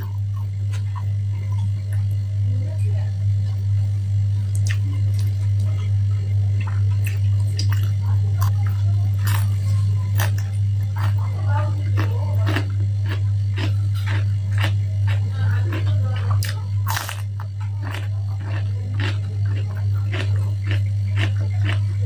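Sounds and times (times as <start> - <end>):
person chewing: 0.0 - 2.1, 4.4 - 22.0
low electrical hum: 0.0 - 22.0.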